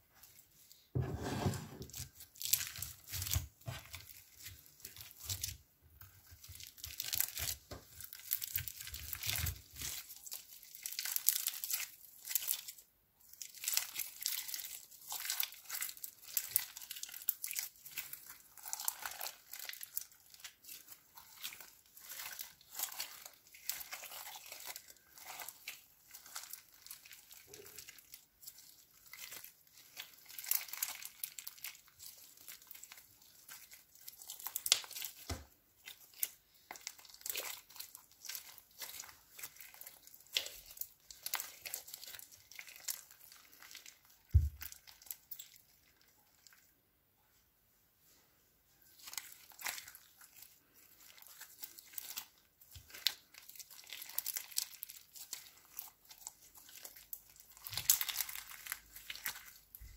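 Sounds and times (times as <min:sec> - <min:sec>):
slime crackling when kneaded: 0:01.8 - 0:46.6, 0:48.9 - 0:59.9.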